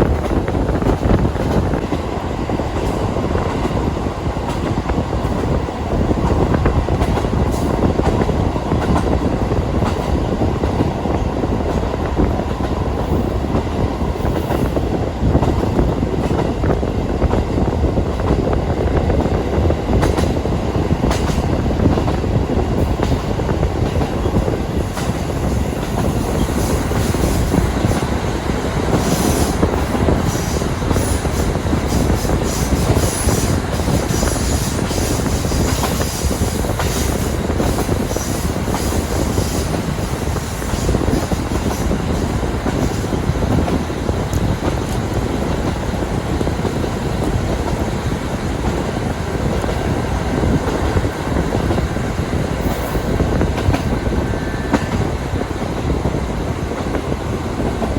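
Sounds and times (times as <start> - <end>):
rail joint clicks: 0.0 - 57.9
railcar engine and wheels rumbling: 0.0 - 57.9.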